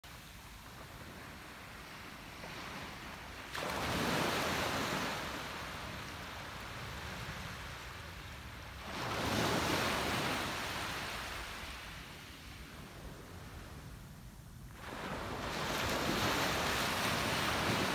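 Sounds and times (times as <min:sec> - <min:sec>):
small waves washing onto sand: 0:00.1 - 0:14.1, 0:14.7 - 0:17.9.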